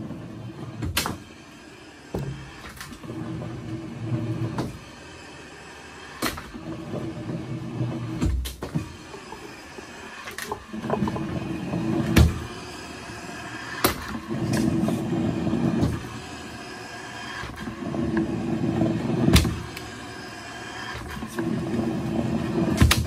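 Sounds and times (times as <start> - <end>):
hydraulic machine running: 0.0 - 23.0.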